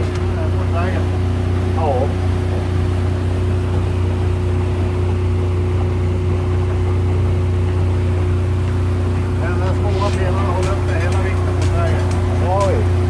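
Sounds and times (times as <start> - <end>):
motorboat engine drone: 0.0 - 13.0
water rushing: 0.0 - 13.0.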